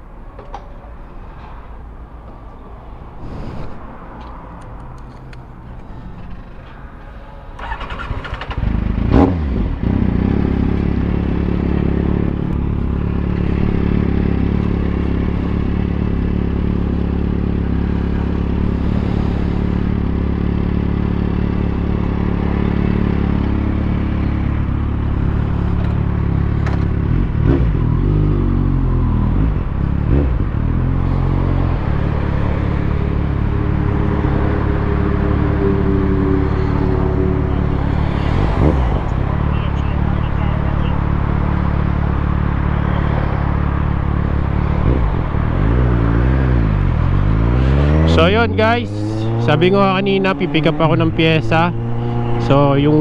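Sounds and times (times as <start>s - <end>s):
motorcycle engine running and revving: 7.6s - 53.0s.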